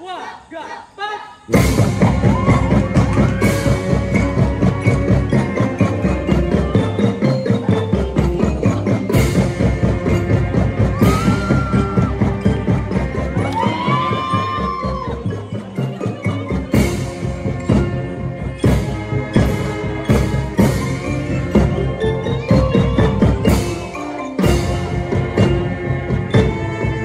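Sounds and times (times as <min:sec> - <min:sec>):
marching band playing: 0:01.5 - 0:27.0
marimba and xylophone notes: 0:01.5 - 0:27.0.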